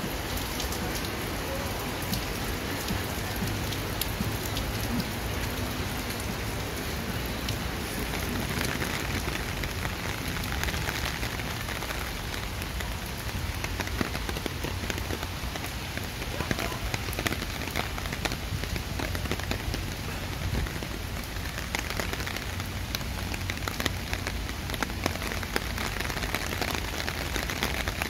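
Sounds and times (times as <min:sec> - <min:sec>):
steady rain falling: 0:00.0 - 0:28.0
sharp raindrop ticks: 0:00.2 - 0:28.0.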